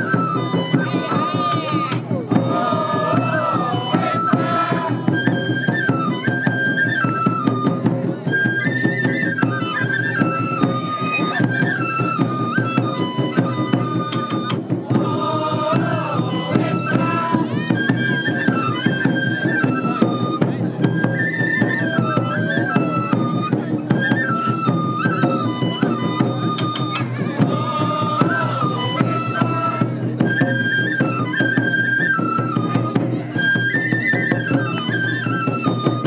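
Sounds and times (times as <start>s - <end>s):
bamboo flute melody: 0.0s - 36.0s
taiko drumming: 0.0s - 36.0s.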